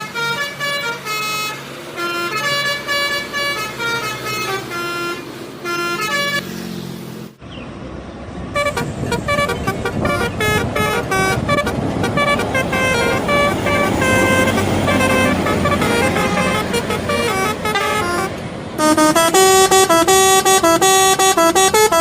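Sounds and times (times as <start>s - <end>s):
multi-tone bus horn tune: 0.0s - 6.6s, 8.5s - 22.0s
road noise: 0.0s - 22.0s.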